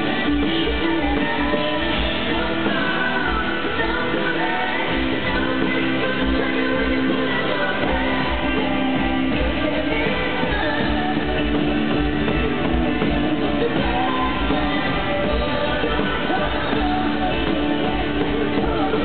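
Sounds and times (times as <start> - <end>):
live country rock band: 0.0 - 19.0.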